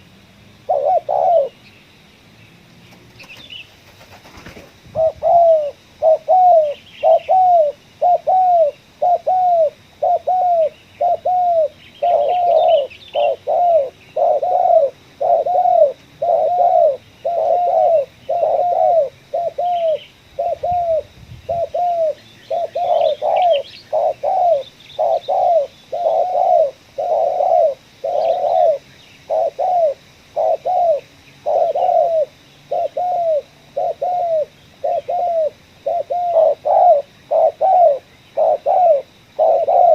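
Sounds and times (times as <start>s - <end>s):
dove cooing: 0.0s - 1.7s, 3.1s - 39.9s
small birds chirping: 0.0s - 39.9s.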